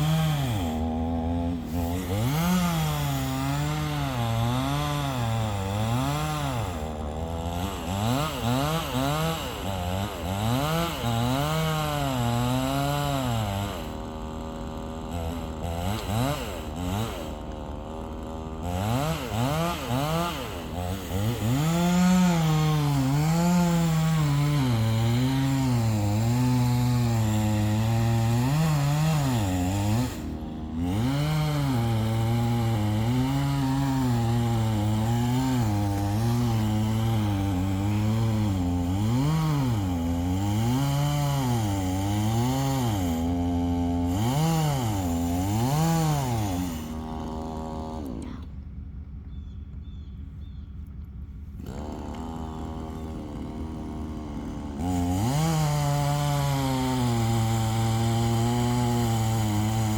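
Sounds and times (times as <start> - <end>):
chainsaw cutting wood: 0.0 - 49.2, 50.8 - 59.9.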